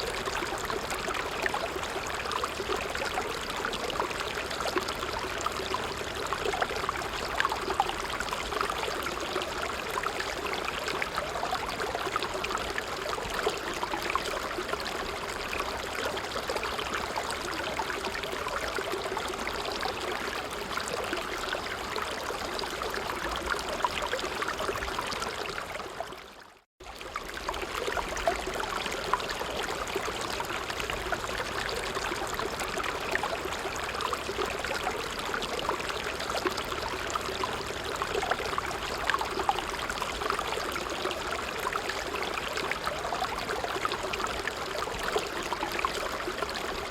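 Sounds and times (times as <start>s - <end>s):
stream babbling over rocks: 0.0s - 46.9s.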